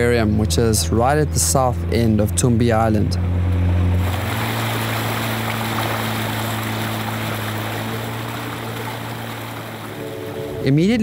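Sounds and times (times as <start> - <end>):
boat engine humming: 0.0 - 11.0
water rushing along hull: 0.7 - 11.0.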